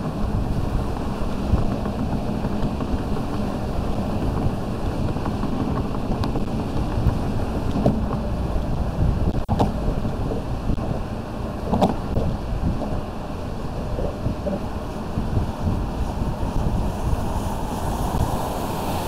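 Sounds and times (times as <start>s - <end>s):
road and tyre noise: 0.0s - 19.0s
wind buffeting microphone: 0.0s - 19.0s.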